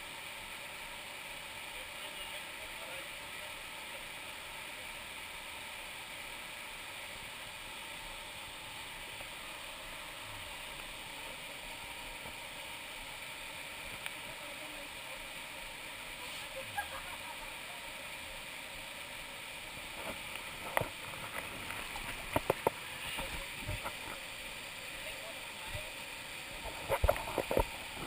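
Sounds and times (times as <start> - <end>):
water pouring over waterfall: 0.0 - 28.0.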